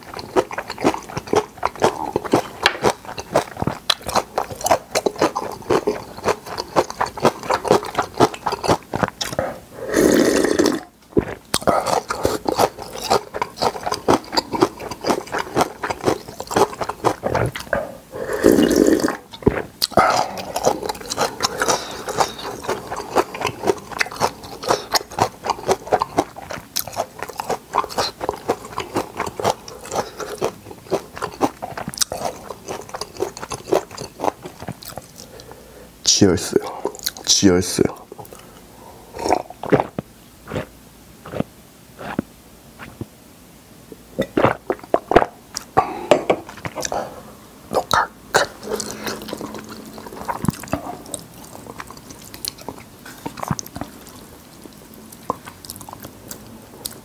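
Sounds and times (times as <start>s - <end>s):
wet chewing and crunching: 0.0s - 35.6s, 36.4s - 43.1s, 44.2s - 45.8s, 46.4s - 47.1s, 47.7s - 57.0s.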